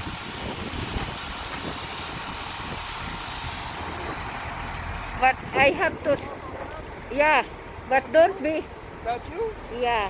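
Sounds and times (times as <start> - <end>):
truck engines running: 0.0 - 10.0.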